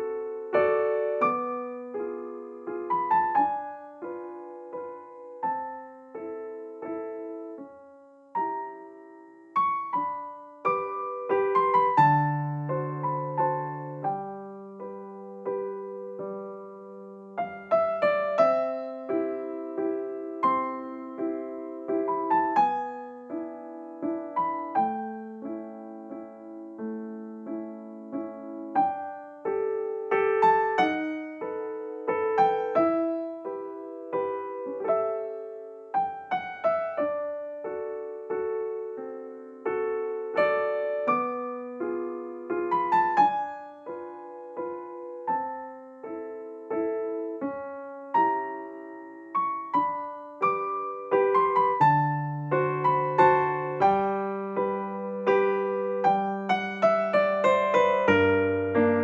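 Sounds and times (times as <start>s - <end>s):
gentle solo piano: 0.0s - 59.0s.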